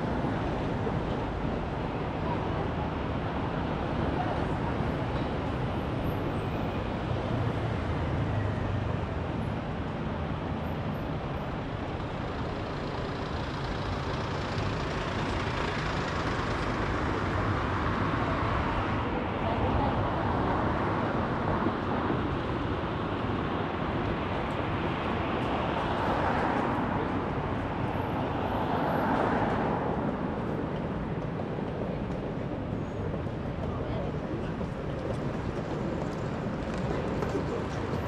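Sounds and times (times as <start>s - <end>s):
city road traffic: 0.0s - 38.0s.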